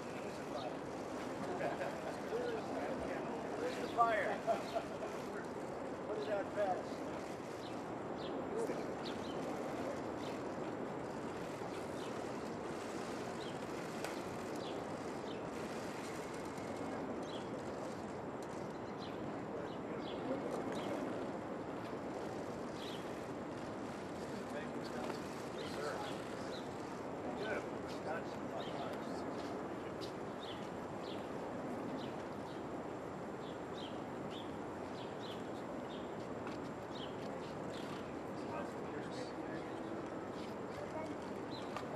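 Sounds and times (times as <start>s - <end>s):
outdoor background noise: 0.0s - 41.9s.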